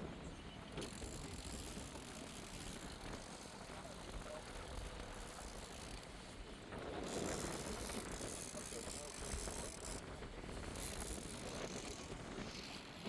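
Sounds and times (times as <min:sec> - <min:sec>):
fishing reel clicking: 0:00.8 - 0:06.1, 0:07.0 - 0:10.0, 0:10.7 - 0:13.0.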